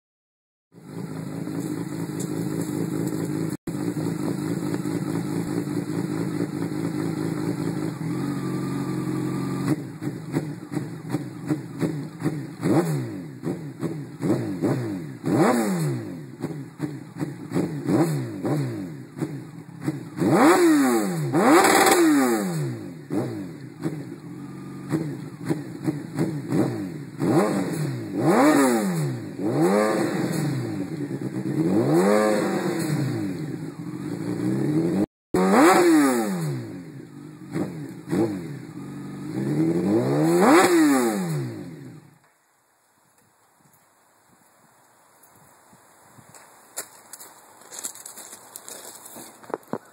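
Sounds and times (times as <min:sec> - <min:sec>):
motorcycle engine revving: 0:00.7 - 0:42.3.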